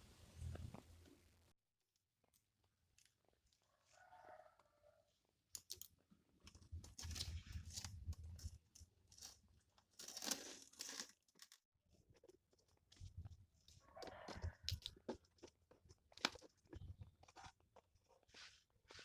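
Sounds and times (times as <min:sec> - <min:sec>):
faint crackling and crinkling: 0:00.0 - 0:19.0.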